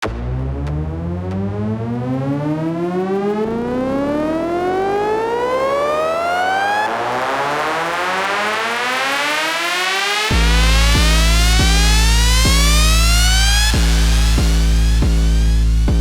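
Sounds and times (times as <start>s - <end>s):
synthesizer riser: 0.0s - 16.0s.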